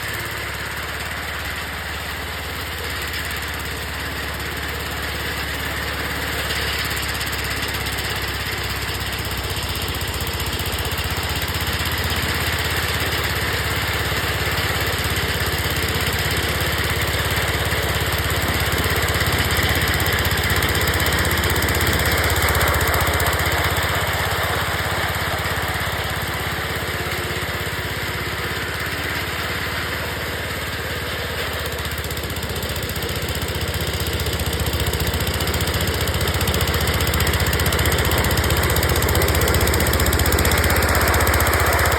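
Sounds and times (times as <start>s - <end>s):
garden tractor engine running: 0.0s - 41.9s.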